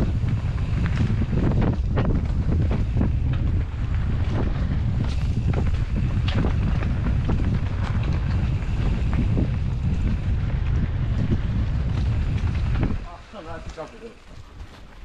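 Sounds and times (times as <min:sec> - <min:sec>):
bike clicks and rattles: 0:00.0 - 0:15.0
mountain bike rolling on trail: 0:00.0 - 0:15.0
wind rumbling on microphone: 0:00.0 - 0:15.0.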